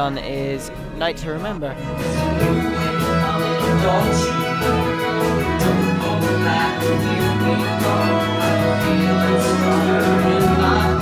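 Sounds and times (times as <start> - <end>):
orchestral strings holding chords: 0.0 - 11.0.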